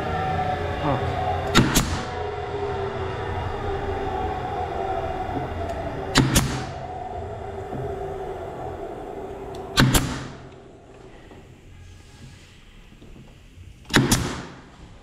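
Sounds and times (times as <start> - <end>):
workshop machinery hum: 0.0 - 15.0.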